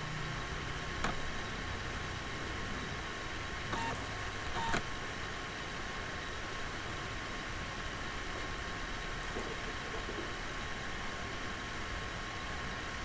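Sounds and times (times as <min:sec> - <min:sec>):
faint steady whine: 0:00.0 - 0:13.0
microphone hiss: 0:00.0 - 0:13.0.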